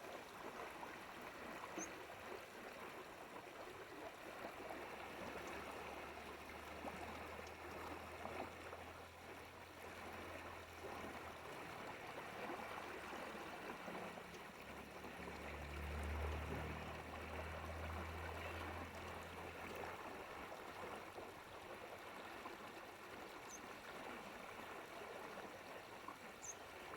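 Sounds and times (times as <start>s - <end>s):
stream babbling and trickling: 0.0s - 26.9s.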